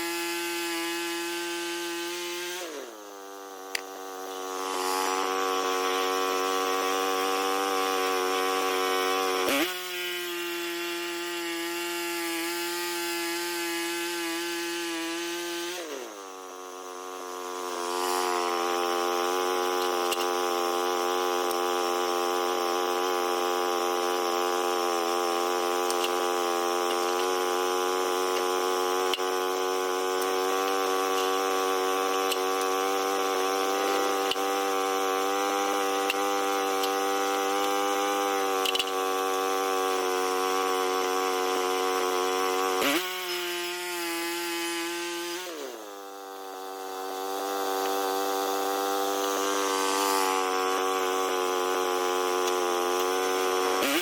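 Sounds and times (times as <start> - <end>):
blade cutting wood hiss: 0.0 - 54.0
sawmill engine running: 0.0 - 54.0.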